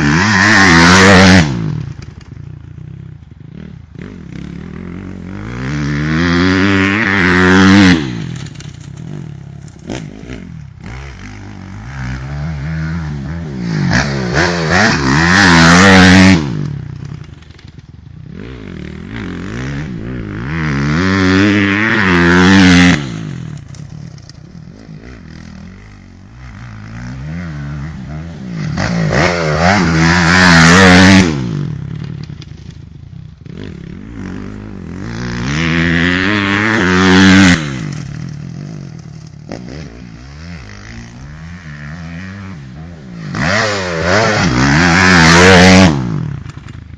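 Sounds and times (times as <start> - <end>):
motocross bike revving: 0.0 - 46.9.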